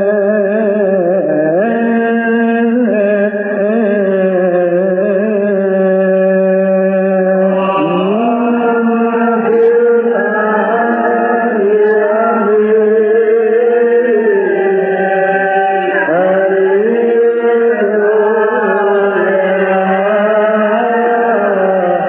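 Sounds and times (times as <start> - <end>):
man chanting: 0.0 - 22.0.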